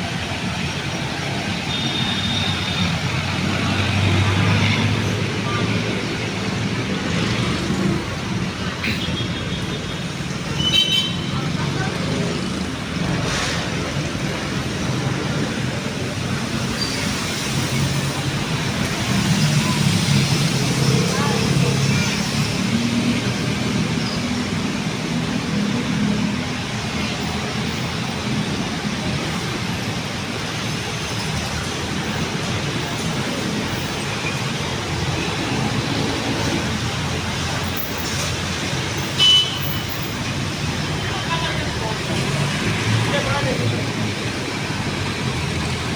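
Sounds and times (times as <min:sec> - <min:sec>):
tyre and road noise: 0:00.0 - 0:45.9
vehicle engines running: 0:00.0 - 0:45.9.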